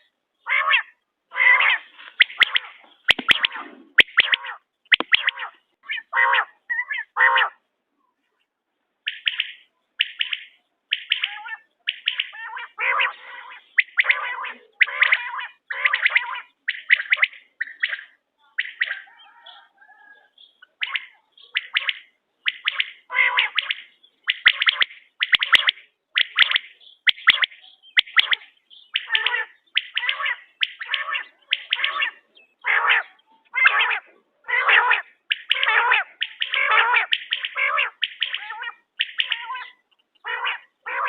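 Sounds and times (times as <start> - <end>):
quail calling: 0.0 - 7.7, 9.0 - 41.0.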